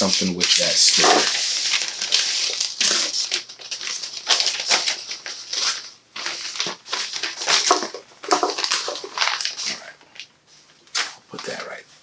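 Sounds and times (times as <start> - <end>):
wrapping paper crinkling: 0.0 - 11.8.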